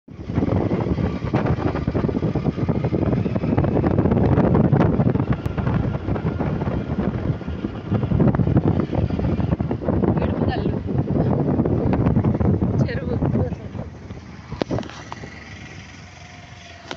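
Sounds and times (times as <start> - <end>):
moving vehicle rumble: 0.1 - 16.9
wind buffeting microphone: 0.1 - 16.9.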